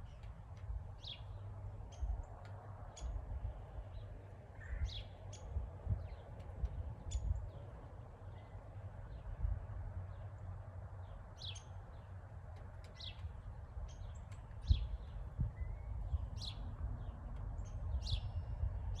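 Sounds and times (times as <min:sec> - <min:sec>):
small birds chirping: 0:00.0 - 0:09.4, 0:10.0 - 0:19.0
steady low rumble: 0:00.0 - 0:11.0, 0:13.0 - 0:19.0.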